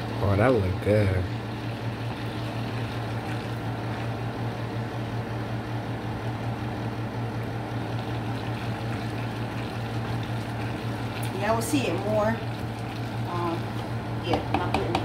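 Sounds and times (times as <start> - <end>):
household appliance motor hum: 0.0 - 15.0.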